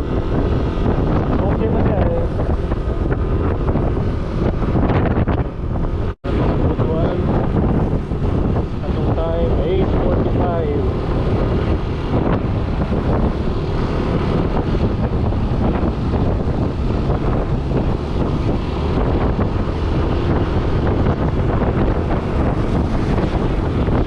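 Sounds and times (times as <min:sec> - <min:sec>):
scooter engine and road noise: 0:00.0 - 0:24.0
wind buffeting microphone: 0:00.0 - 0:24.0.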